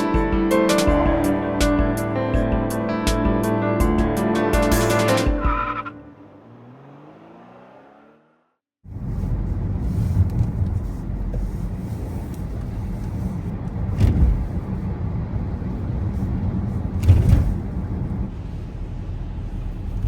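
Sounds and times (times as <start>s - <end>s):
traffic rumble: 0.0s - 4.0s, 4.7s - 20.0s
vehicles passing close: 0.0s - 20.0s.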